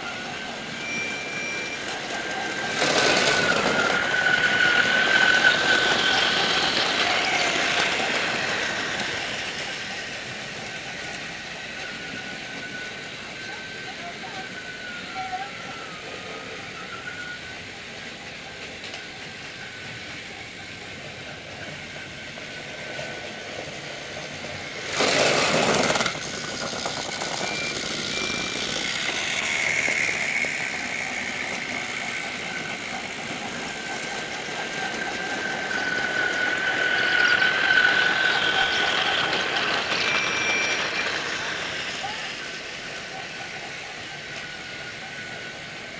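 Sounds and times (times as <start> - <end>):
toy train motors whirring: 0.0 - 45.9.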